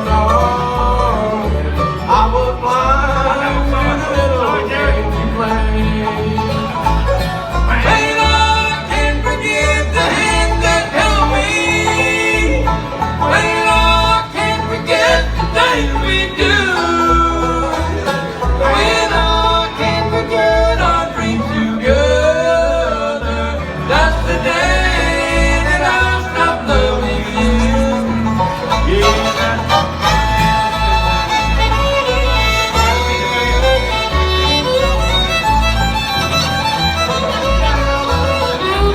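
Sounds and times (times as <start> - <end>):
banjo: 0.0 - 38.9
fiddle: 0.0 - 38.9
guitar: 0.0 - 38.9.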